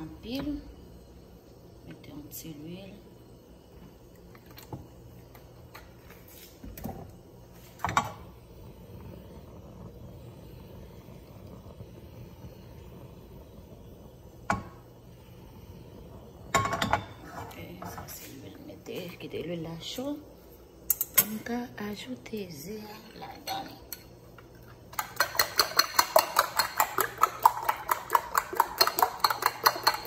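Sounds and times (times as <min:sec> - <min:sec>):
gas stove burner hissing: 0:00.0 - 0:30.0.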